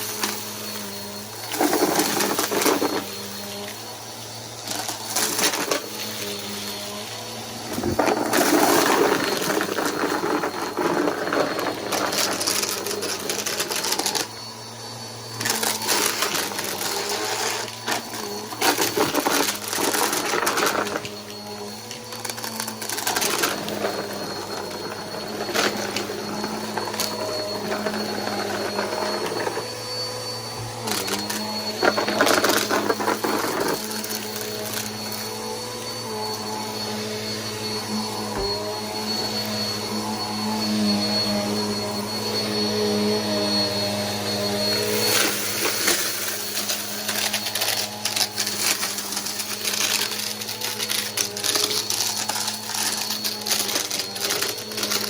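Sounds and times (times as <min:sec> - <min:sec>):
vacuum cleaner motor drone: 0:00.0 - 0:55.0.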